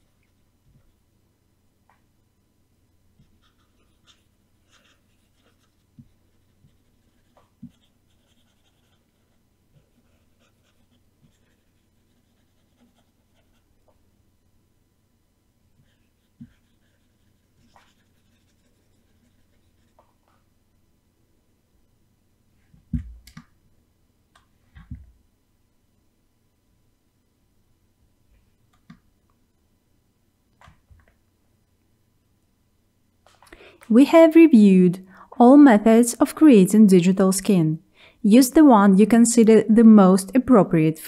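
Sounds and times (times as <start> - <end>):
faint room hum: 0.0 - 41.0.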